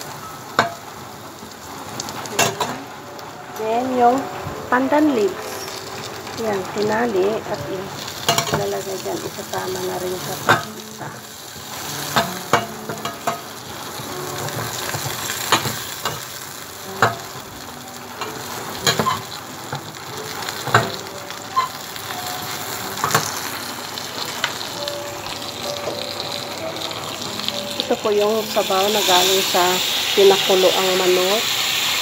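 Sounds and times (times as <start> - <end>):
garlic sizzling in a pan: 0.0 - 32.0.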